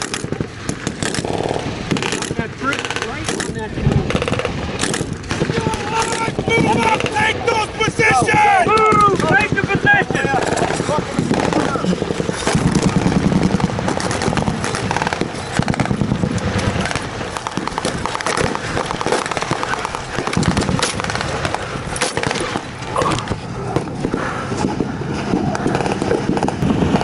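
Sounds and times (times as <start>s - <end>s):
crackle of rifle and machine-gun fire: 0.0s - 7.2s, 8.3s - 22.8s, 23.8s - 27.0s.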